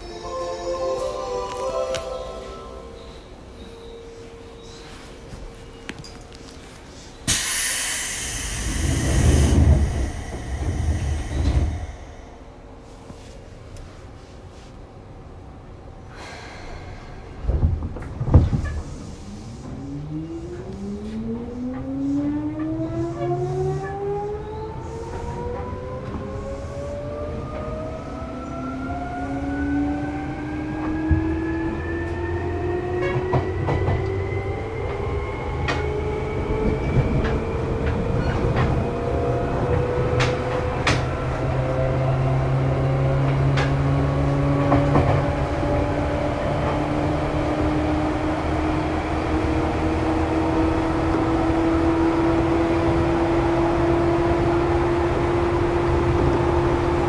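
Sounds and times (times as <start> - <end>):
train running rumble: 0.0 - 27.9, 32.1 - 57.0.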